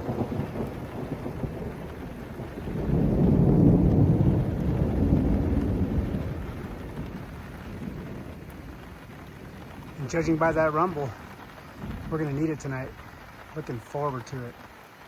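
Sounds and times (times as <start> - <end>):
rolling thunder: 0.0 - 14.7
steady rain: 0.0 - 15.0.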